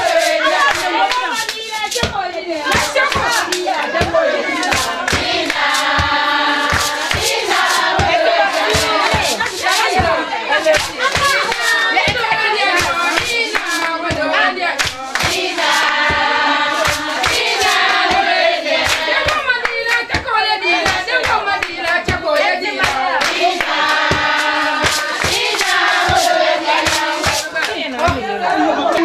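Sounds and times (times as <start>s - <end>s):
rhythmic hand clapping: 0.0s - 29.0s
women singing together: 0.0s - 29.0s.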